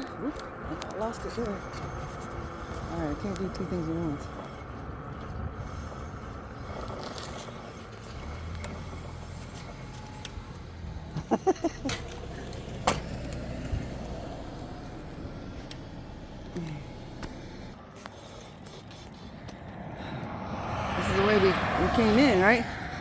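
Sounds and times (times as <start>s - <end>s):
low rumble of a ride: 0.0s - 23.0s.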